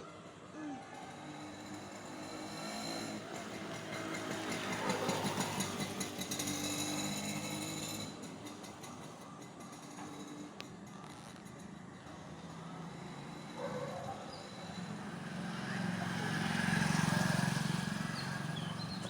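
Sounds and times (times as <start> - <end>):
motor vehicle engine: 0.8 - 19.0.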